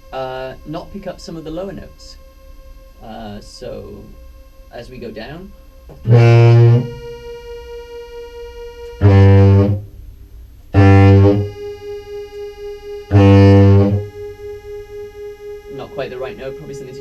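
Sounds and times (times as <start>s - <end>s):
pulsing synth tone: 0.0s - 9.9s, 10.8s - 17.0s
fuzzed contrabass clarinet low notes: 0.0s - 17.0s.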